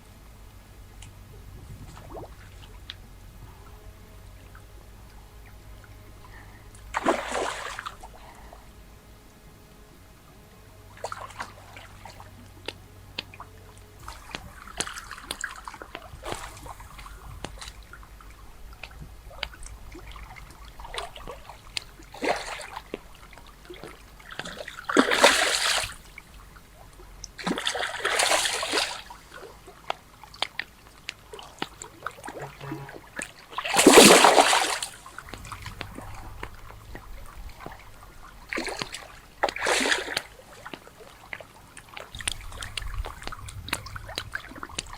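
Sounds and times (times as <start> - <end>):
water splashing: 0.0 - 9.4, 10.4 - 44.9
water trickling: 0.0 - 44.9.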